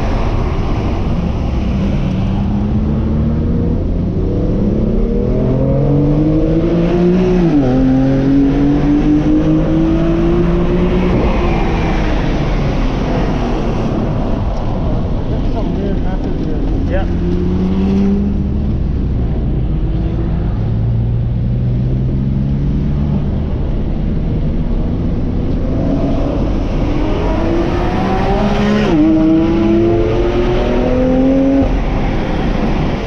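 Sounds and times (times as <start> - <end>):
car engine accelerating hard: 0.0 - 33.0.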